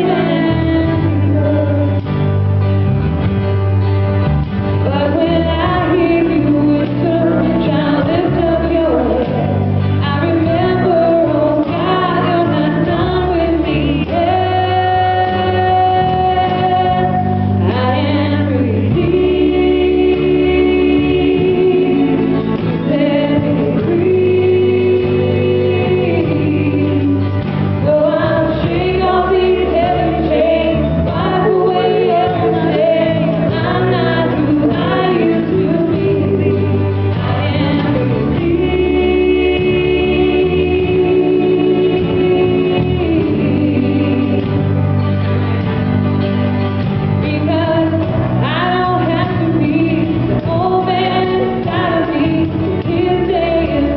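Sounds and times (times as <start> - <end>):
group gospel singing: 0.0 - 3.2, 4.8 - 53.9
instrumental backing: 0.0 - 53.9.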